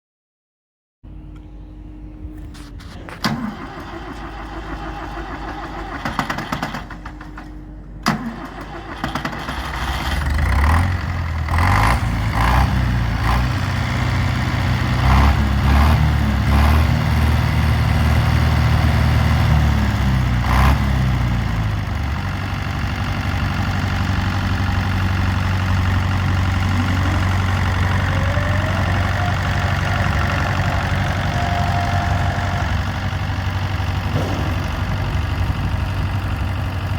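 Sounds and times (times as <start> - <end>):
diesel tractor engine: 1.1 - 36.9.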